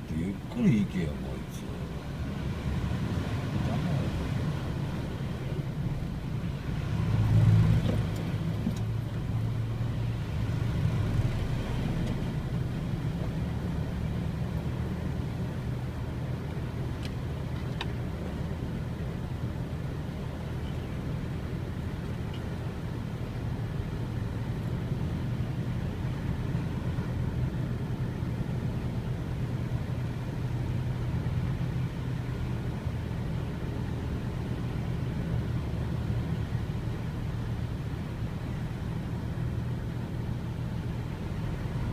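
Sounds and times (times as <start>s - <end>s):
vehicle engine humming: 0.0s - 41.9s.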